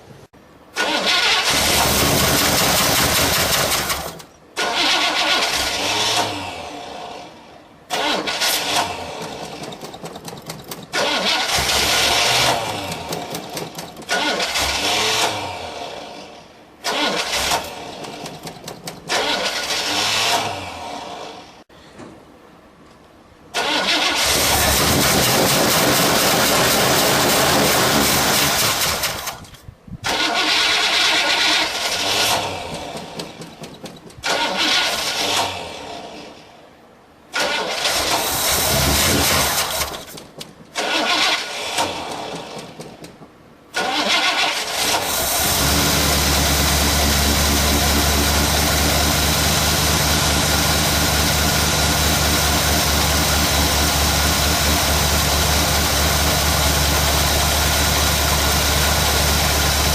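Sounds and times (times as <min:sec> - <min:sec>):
car engine cranking: 0:00.7 - 0:06.8, 0:07.9 - 0:16.1, 0:16.8 - 0:20.8, 0:23.5 - 0:36.1, 0:37.3 - 0:59.9.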